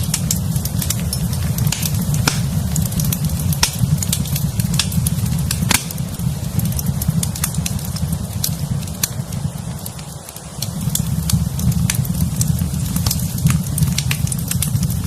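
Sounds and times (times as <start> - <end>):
fire crackling and popping: 0.0 - 15.0
fireplace fire rumbling: 0.0 - 15.0.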